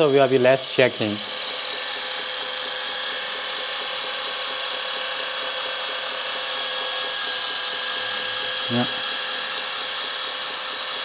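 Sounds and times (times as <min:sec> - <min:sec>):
electric hydraulic pump whining: 0:00.0 - 0:11.0.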